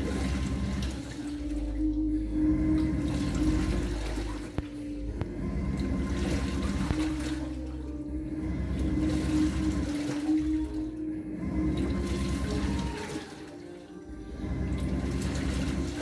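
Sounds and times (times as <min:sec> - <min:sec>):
washing machine motor hum: 0:00.0 - 0:16.0
washing machine sloshing: 0:00.0 - 0:16.0.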